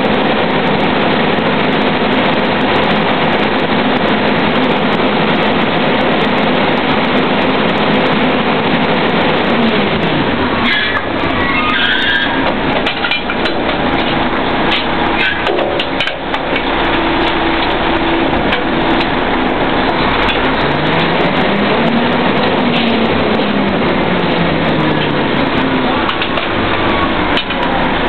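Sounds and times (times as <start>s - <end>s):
rig engines and drawworks running: 0.0s - 28.0s.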